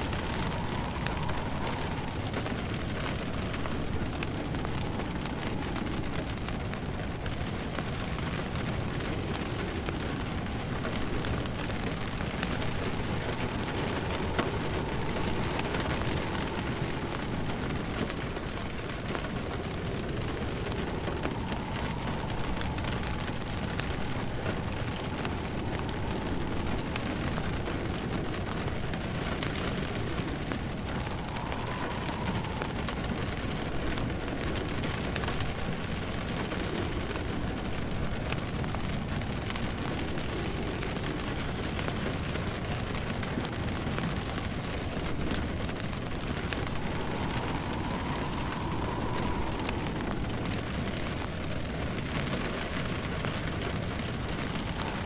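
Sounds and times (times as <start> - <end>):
faint wind whistle: 0.0 - 55.0
fireplace crackling: 0.0 - 55.0
rain pattering: 0.0 - 55.0.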